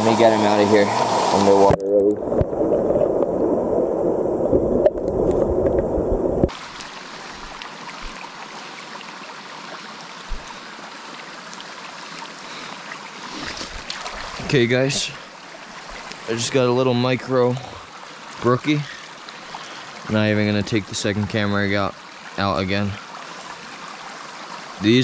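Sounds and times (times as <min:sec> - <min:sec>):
stream flowing over rocks: 0:04.4 - 0:25.0.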